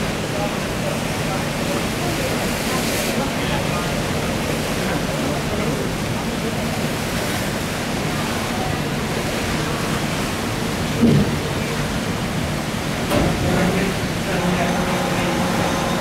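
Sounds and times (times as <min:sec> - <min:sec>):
sea water churning around hull: 0:00.0 - 0:16.0.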